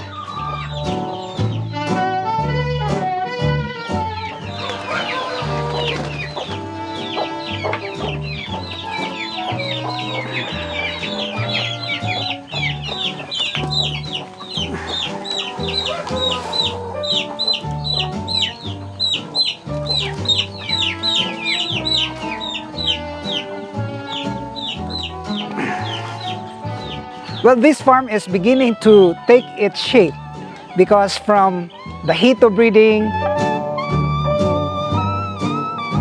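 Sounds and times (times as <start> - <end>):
chickens clucking: 0.0 - 2.3, 3.7 - 32.4
chicks peeping: 0.0 - 33.6
background music with bass line: 0.0 - 36.0.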